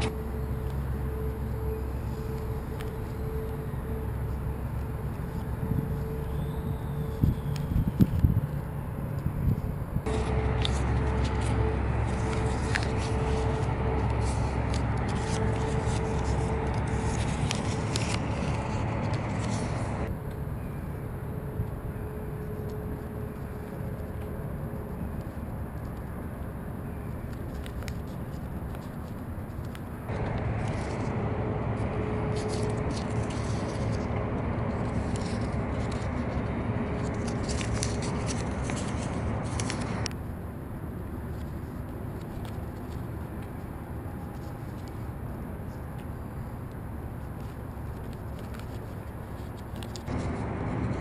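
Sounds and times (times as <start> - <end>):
paper crinkling and folding: 0.0 - 20.4, 21.4 - 51.0
low outdoor rumble: 0.0 - 51.0.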